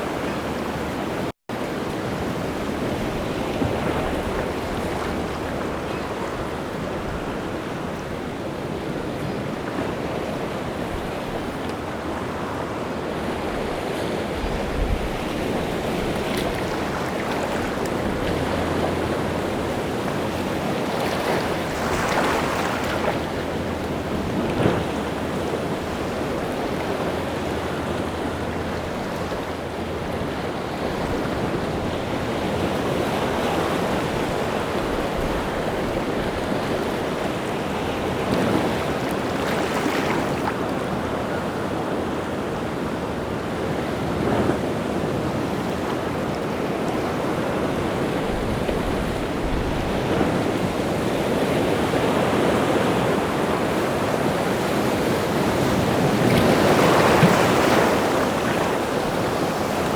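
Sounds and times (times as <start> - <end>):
rough sea surf breaking: 0.0 - 59.9.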